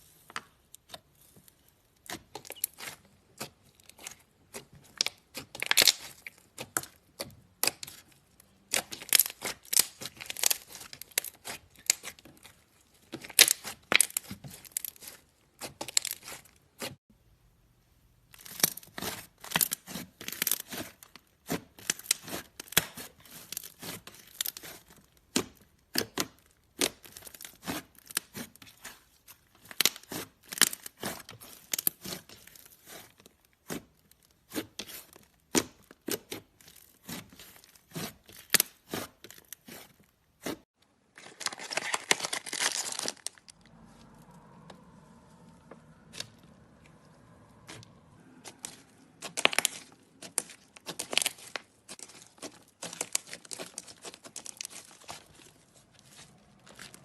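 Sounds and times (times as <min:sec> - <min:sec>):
slime crackling and popping: 0:02.0 - 0:08.1, 0:08.7 - 0:16.9, 0:18.3 - 0:40.6, 0:41.3 - 0:43.6, 0:48.4 - 0:57.0.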